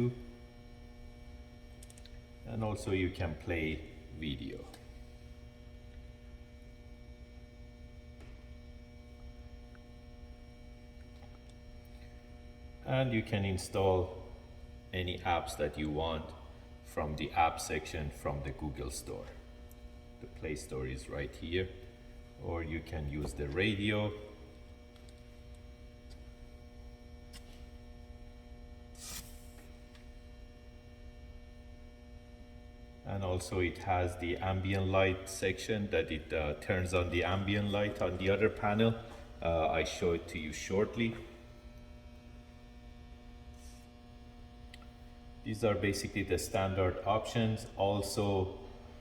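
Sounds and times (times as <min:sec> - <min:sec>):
electrical hum: 0:00.0 - 0:49.0.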